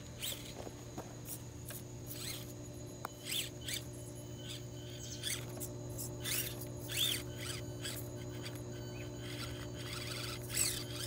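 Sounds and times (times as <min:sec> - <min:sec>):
rc car drivetrain whining: 0:00.0 - 0:11.0.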